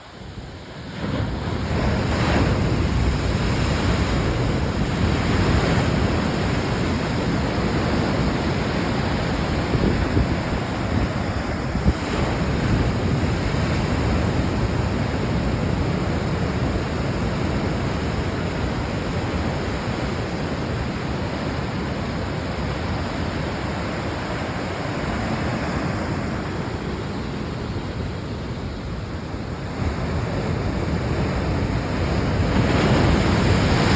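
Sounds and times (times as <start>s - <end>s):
ocean waves breaking: 0.0s - 33.9s
wind buffeting microphone: 0.2s - 33.9s.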